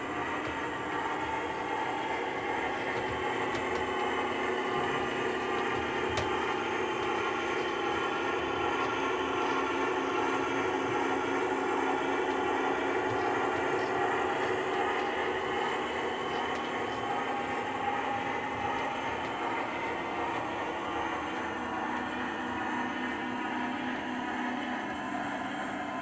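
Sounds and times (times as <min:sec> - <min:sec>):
model train diesel drone: 0:00.0 - 0:26.0.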